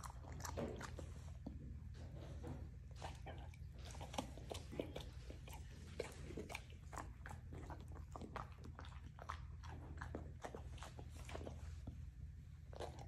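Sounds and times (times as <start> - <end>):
puppy chewing wet mouth sounds: 0.0 - 13.0.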